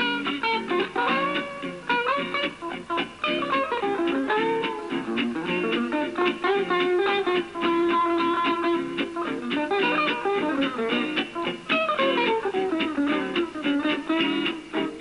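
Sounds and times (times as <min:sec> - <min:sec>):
jazz guitar rapid plucked notes: 0:00.0 - 0:15.0.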